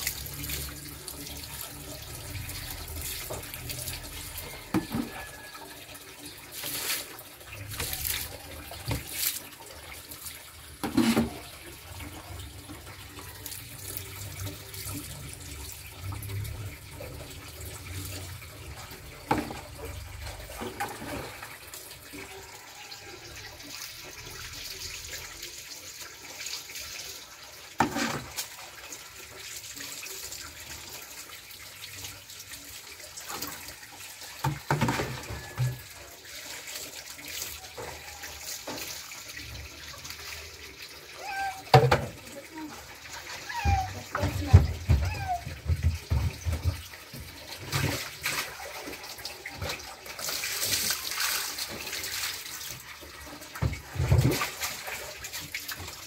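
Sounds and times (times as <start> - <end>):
water splashing on tiled floor: 0.0 - 56.0.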